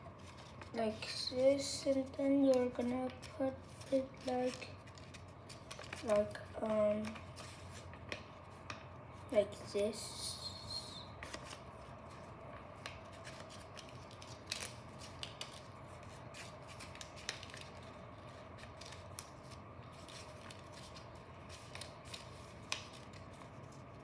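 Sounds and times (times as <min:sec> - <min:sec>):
paper crinkling and rustling: 0:00.0 - 0:09.4, 0:11.1 - 0:24.0
faint steady hum: 0:00.0 - 0:24.0.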